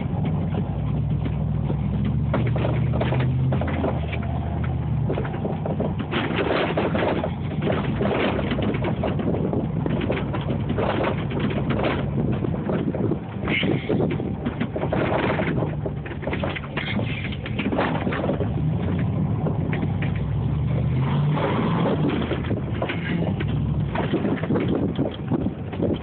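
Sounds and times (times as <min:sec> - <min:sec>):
pickup engine running: 0:00.0 - 0:26.0
wind and tyres in snow: 0:00.0 - 0:26.0.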